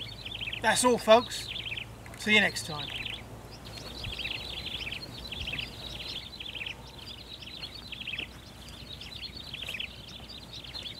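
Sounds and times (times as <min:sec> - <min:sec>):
birds twittering: 0:00.0 - 0:10.9
faint low outdoor hum: 0:00.0 - 0:10.9.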